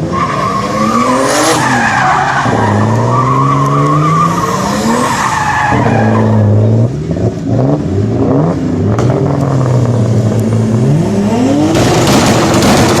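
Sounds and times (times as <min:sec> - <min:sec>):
turbocharged car engine revving: 0:00.1 - 0:13.0.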